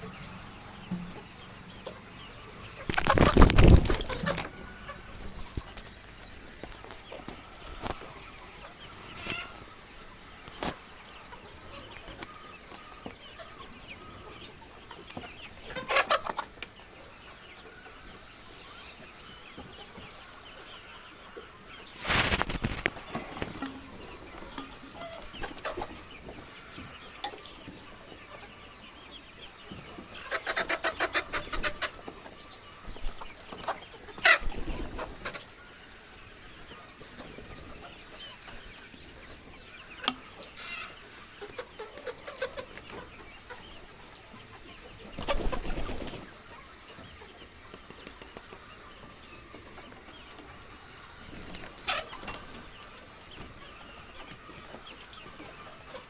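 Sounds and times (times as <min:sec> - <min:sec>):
hens clucking and calling: 0:00.0 - 0:56.0.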